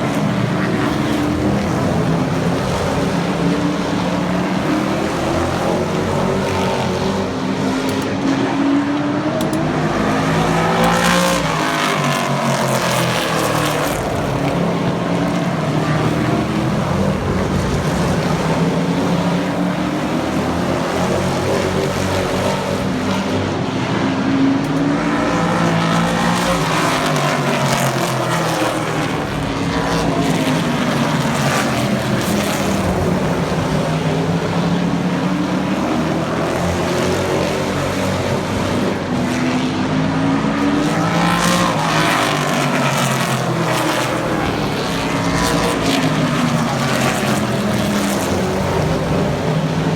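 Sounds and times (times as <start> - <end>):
racing truck engines at high revs: 0.0 - 49.9
trucks passing by: 0.0 - 49.9.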